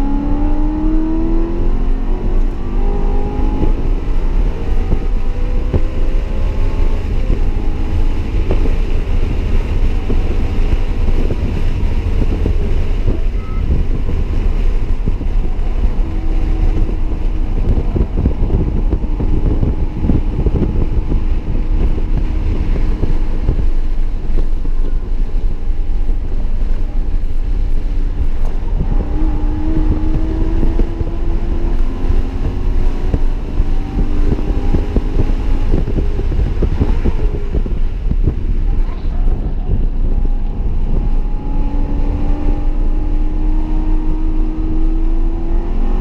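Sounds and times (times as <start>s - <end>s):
car engine running hard: 0.0s - 46.0s
road and wind rumble: 0.0s - 46.0s.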